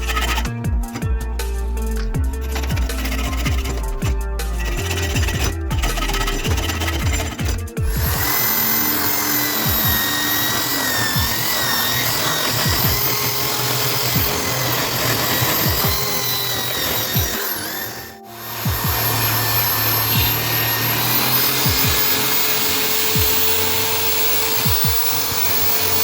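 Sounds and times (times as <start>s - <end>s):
power tool motor whine: 0.0s - 26.0s.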